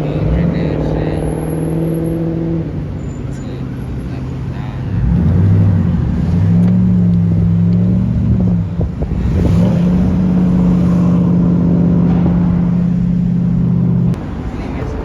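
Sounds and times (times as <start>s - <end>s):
car engine revving high: 0.0s - 15.0s.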